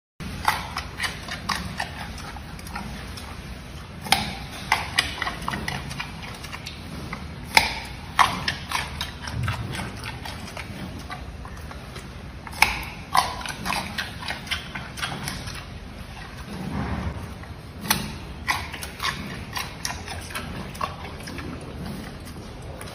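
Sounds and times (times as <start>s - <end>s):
panda crunching a carrot: 0.2s - 22.9s.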